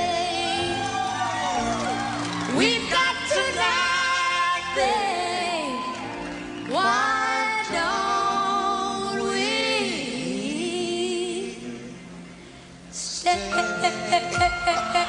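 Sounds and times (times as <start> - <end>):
music with long held vocals: 0.0 - 15.0.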